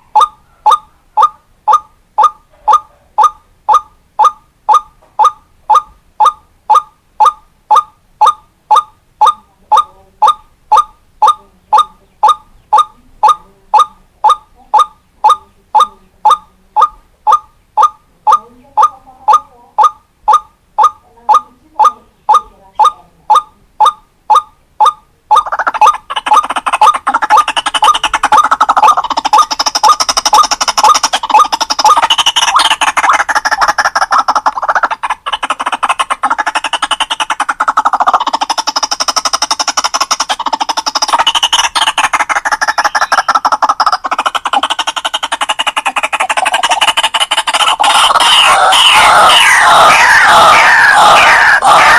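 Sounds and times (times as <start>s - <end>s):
bird call notes repeated: 0.0s - 51.9s.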